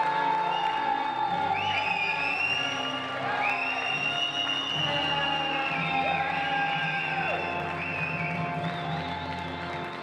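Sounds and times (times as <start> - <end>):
audience cheering: 0.0 - 10.0
background music: 0.0 - 10.0.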